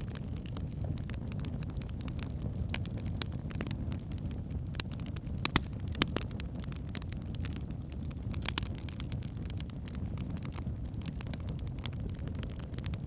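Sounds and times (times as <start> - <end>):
burning logs crackling and popping: 0.0 - 13.0
flames rumbling: 0.0 - 13.0.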